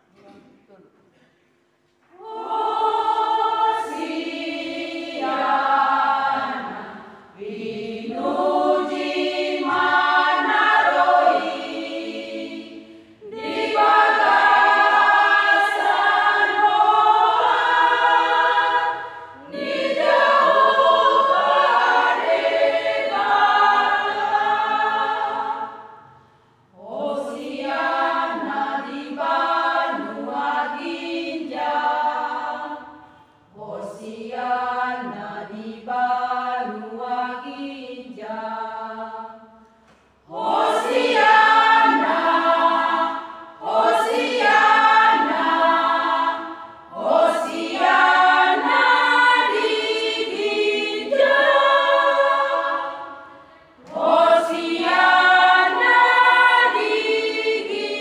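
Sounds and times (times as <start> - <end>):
women's choir singing a hymn: 2.1 - 58.0.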